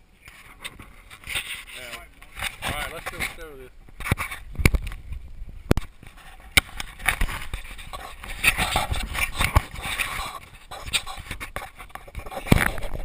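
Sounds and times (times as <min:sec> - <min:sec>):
rubbing and scraping: 0:00.2 - 0:05.2, 0:05.8 - 0:13.0.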